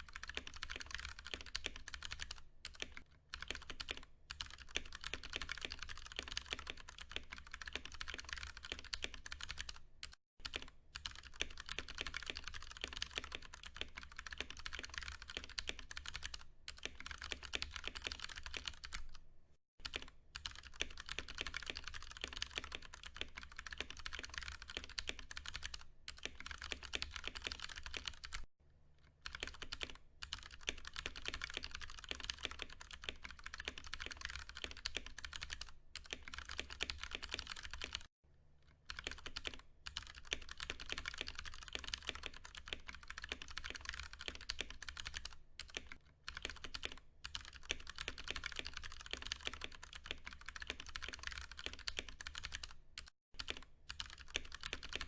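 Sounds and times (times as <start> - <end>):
mechanical keyboard typing: 0.0 - 19.2, 19.8 - 28.5, 29.2 - 38.1, 38.9 - 55.0.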